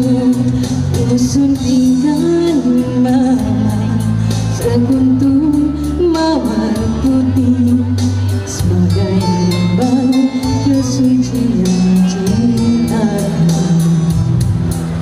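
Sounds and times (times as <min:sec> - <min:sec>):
woman singing slow song: 0:00.0 - 0:14.5
amplified backing track: 0:00.0 - 0:15.0.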